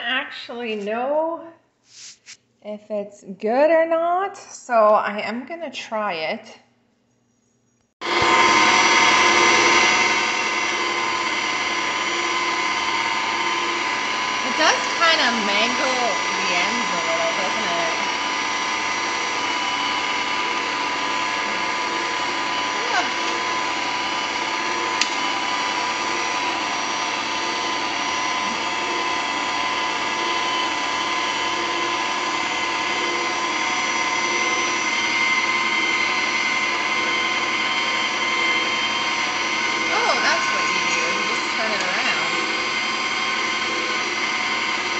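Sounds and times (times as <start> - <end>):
pasta maker motor droning: 8.0 - 44.9.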